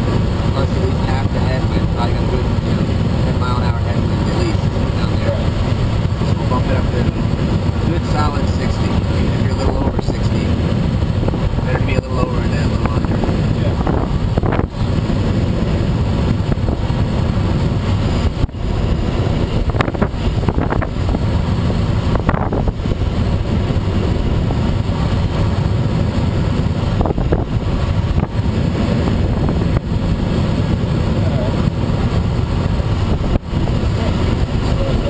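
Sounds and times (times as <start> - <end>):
rush of air over glider: 0.0 - 35.0
wind buffeting microphone: 0.0 - 35.0.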